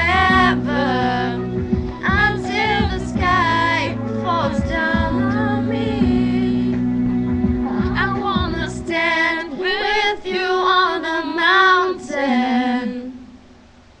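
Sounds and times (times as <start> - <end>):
girls singing a pop ballad: 0.0 - 13.3
recorded backing music: 0.0 - 14.0.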